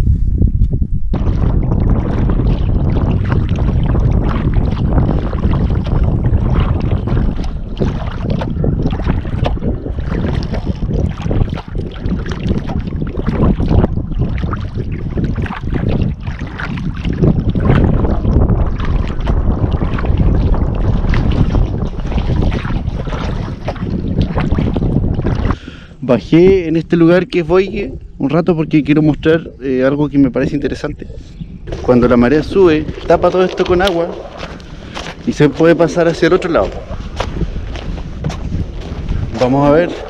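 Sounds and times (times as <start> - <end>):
wind buffeting microphone: 0.0 - 40.0
water sloshing against hull: 0.6 - 26.7, 27.3 - 40.0.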